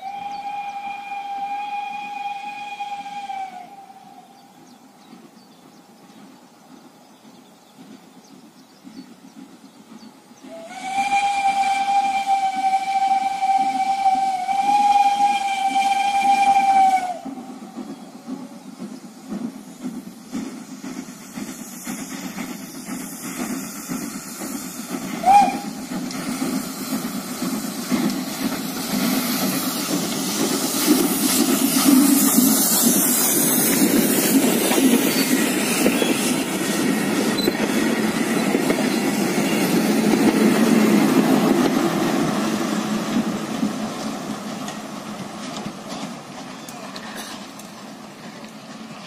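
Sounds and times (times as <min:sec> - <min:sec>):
diesel locomotive passing: 0:00.0 - 0:49.0
steam locomotive hauling carriages: 0:00.0 - 0:49.0.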